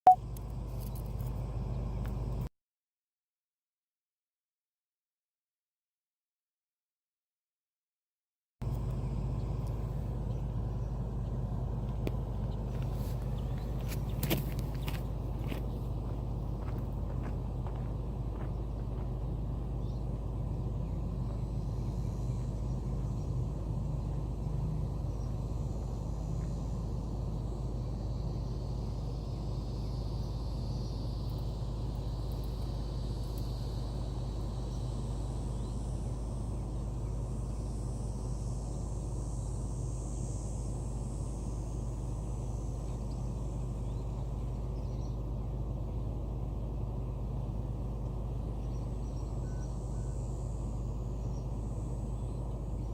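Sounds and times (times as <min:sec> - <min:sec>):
excavator engine humming: 0:00.0 - 0:02.5, 0:08.6 - 0:52.9.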